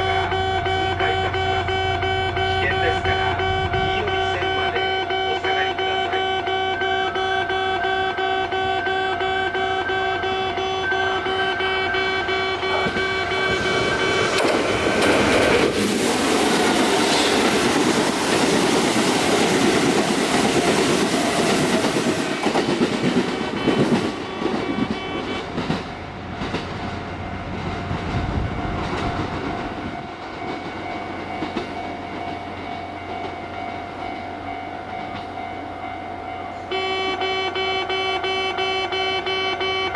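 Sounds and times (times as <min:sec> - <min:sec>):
level crossing alarm: 0:00.0 - 0:25.8, 0:27.2 - 0:39.9
train rumbling over crossing: 0:00.0 - 0:39.9.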